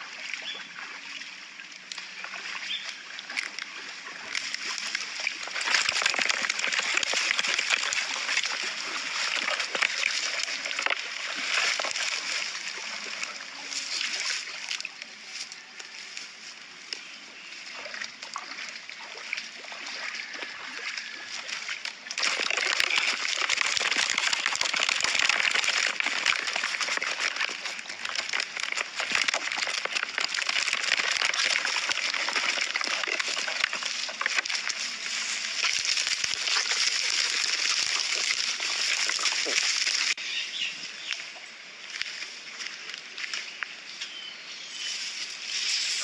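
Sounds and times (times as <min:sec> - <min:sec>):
water splashing and sloshing: 0:00.0 - 0:44.0.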